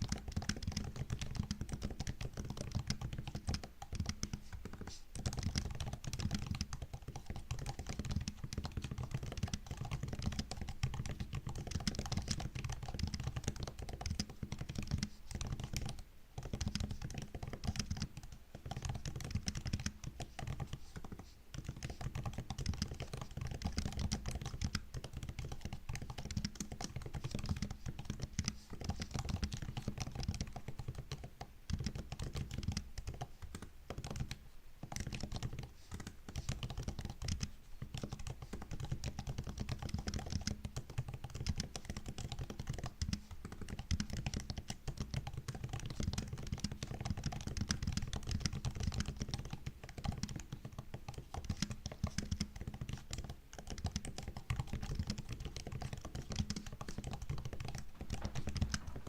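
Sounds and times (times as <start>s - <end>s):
typing on laptop keyboard: 0.0s - 59.0s.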